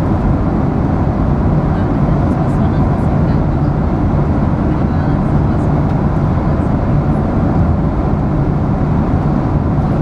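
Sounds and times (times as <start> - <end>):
airliner cabin rumble and hiss: 0.0 - 10.0.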